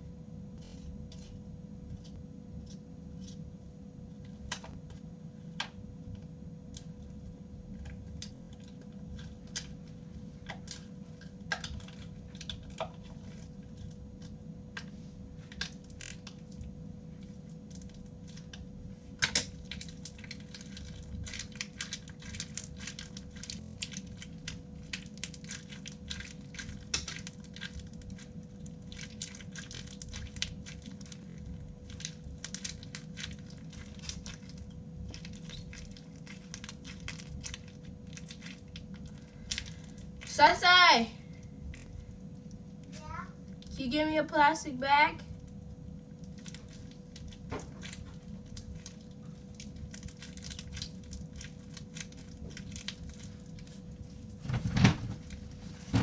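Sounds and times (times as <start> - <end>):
steady low hum: 0.0 - 56.0
crunchy slime crackling: 4.1 - 54.5.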